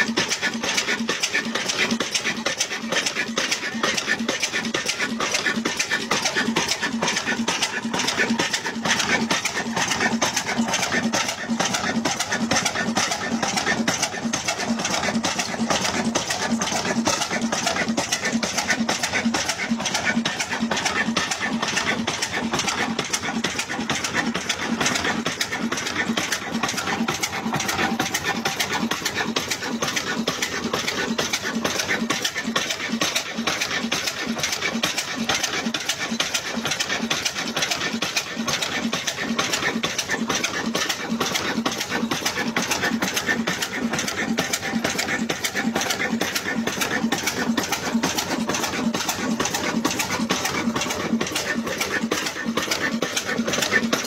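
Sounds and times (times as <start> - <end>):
stationary engine running: 0.0 - 54.0.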